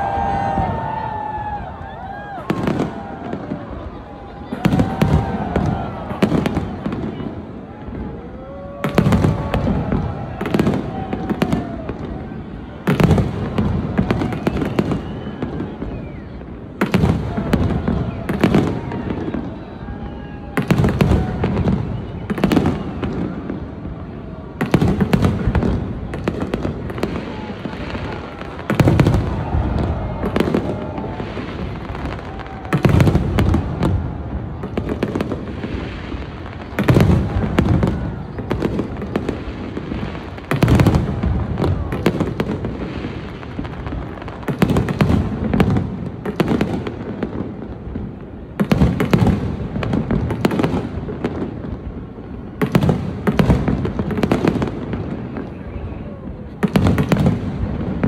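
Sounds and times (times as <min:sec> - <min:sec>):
firework crackling: 0:00.0 - 0:58.0.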